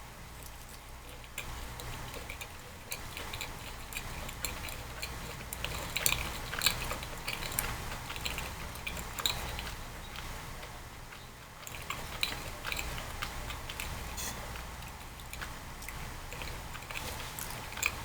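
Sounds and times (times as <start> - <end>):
person chewing with wet mouth clicks: 0.4 - 18.0.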